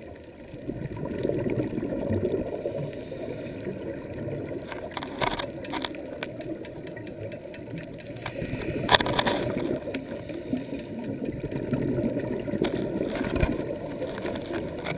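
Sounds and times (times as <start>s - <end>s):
muffled underwater rumble: 0.0s - 14.9s
faint clicks: 2.4s - 14.9s.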